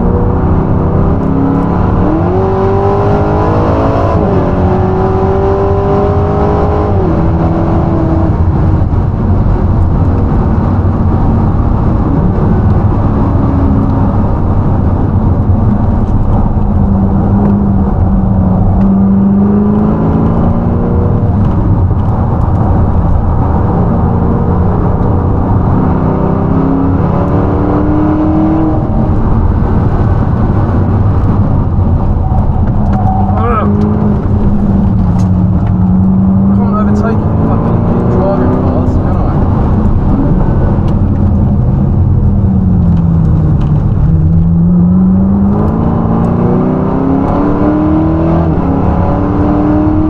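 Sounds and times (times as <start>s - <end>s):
car engine accelerating: 0.0s - 50.0s
wind and road noise: 0.0s - 50.0s.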